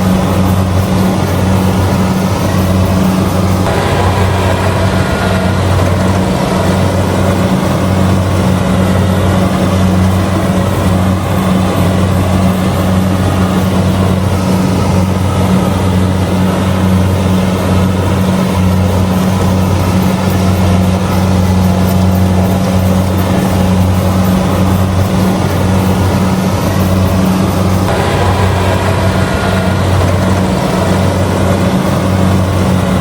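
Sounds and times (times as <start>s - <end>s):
combine harvester diesel drone: 0.0s - 33.0s
cutting and threshing machinery: 0.0s - 33.0s.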